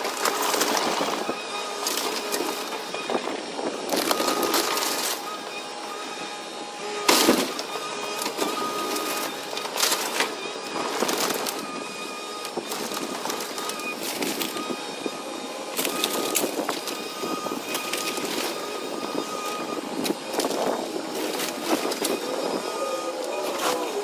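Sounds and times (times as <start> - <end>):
excavator whine: 0.0 - 24.0.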